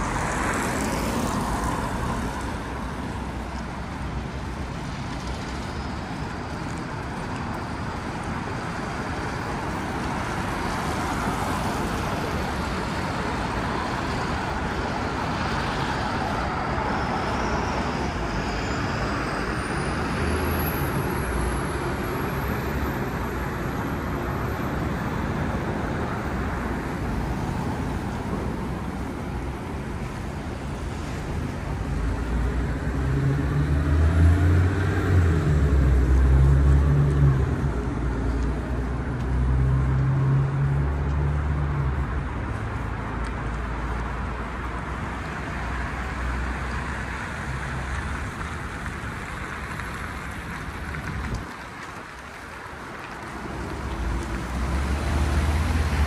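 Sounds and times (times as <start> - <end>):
passing cars: 0.0 - 56.0.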